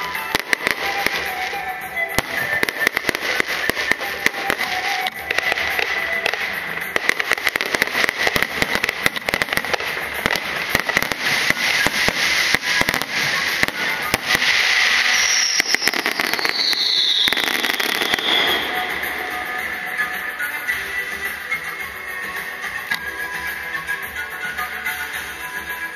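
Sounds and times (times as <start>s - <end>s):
falling whistle: 0.0s - 25.9s
fireworks crackling and popping: 0.0s - 25.9s
fireworks hissing: 0.0s - 25.9s.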